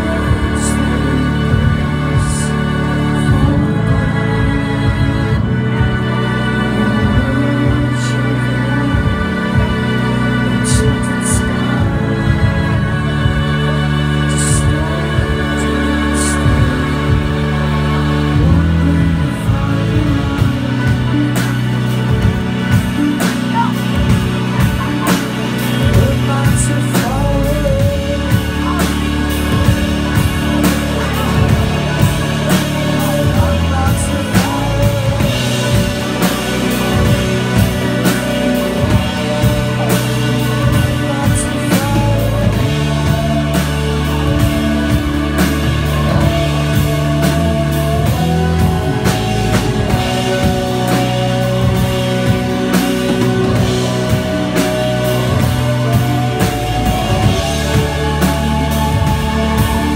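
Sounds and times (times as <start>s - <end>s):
drum kit beat: 0.0s - 59.9s
rock band playing: 0.0s - 59.9s
sustained bass notes: 0.0s - 59.9s
synthesizer chords: 0.0s - 59.9s.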